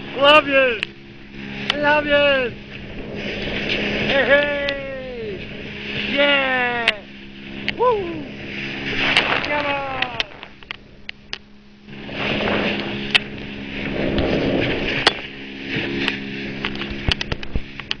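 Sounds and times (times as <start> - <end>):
boat engine running: 0.0 - 18.0
bow water rushing and splashing: 0.0 - 18.0.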